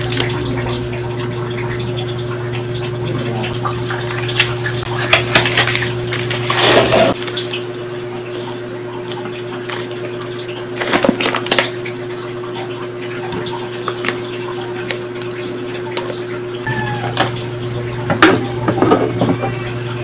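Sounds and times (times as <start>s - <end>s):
electrical hum: 0.0s - 11.0s, 11.7s - 20.0s.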